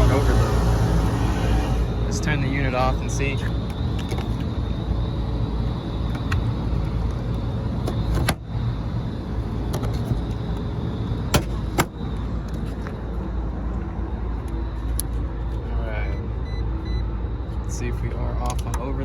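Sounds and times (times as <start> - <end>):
hvac unit humming: 0.0 - 19.0.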